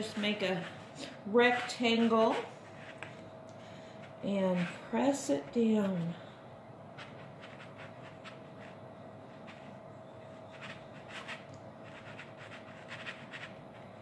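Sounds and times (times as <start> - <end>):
hands rubbing dough: 0.0 - 3.3, 3.9 - 6.1, 6.9 - 14.0
faint steady hum: 0.0 - 14.0.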